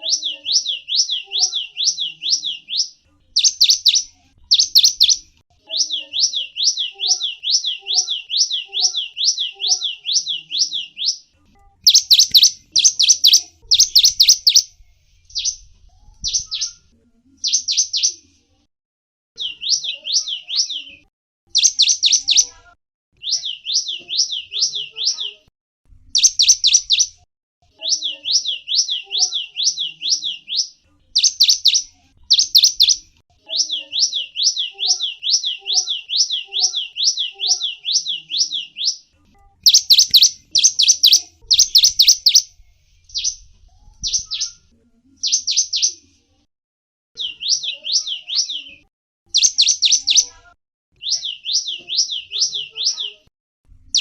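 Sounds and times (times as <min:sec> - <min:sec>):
songbird chirping: 0:00.0 - 0:18.4, 0:19.4 - 0:25.5, 0:26.1 - 0:46.2, 0:47.2 - 0:53.3.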